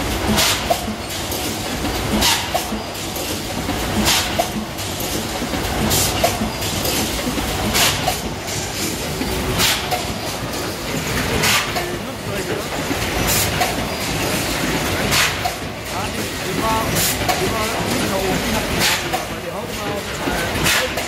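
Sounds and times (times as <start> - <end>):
packaging machine clatter: 0.0 - 21.0.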